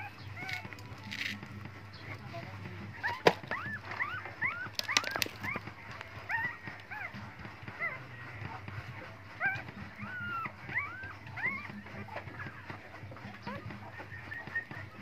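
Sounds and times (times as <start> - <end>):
puppies whimpering: 0.0 - 15.0.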